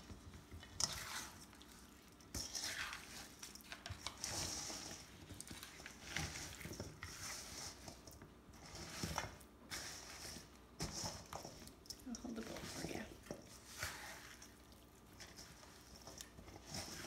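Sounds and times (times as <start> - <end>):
wet squishing of food stirred: 0.0 - 17.0.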